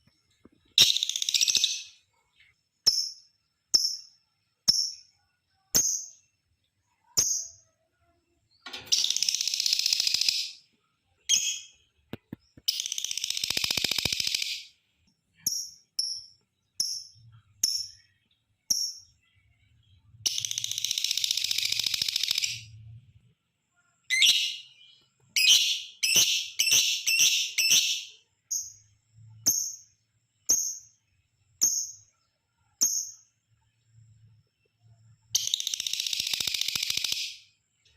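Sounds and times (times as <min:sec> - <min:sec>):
bird high chirps: 0:00.1 - 0:14.8, 0:15.4 - 0:22.8, 0:24.0 - 0:34.0, 0:34.6 - 0:37.9.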